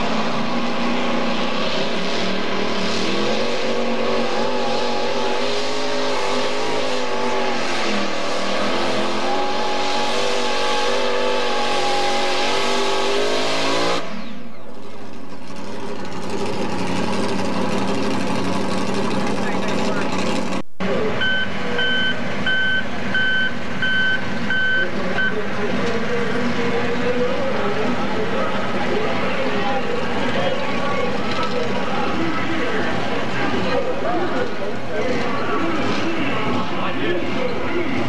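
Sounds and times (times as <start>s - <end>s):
tractor engine at full throttle: 0.0s - 38.0s.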